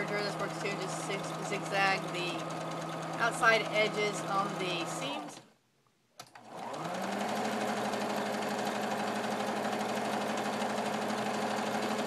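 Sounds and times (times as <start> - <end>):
sewing machine stitching: 0.0 - 5.5, 6.2 - 12.0.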